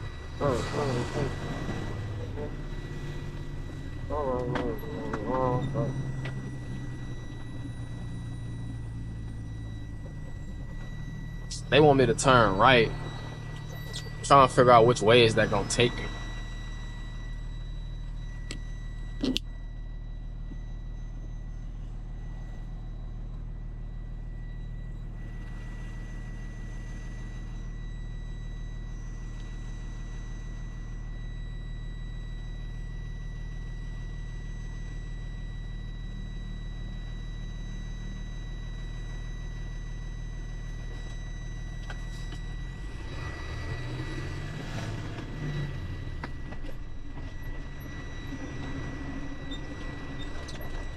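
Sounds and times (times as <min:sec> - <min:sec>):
high whine: 0:00.0 - 0:50.9
truck engine running: 0:00.0 - 0:50.9.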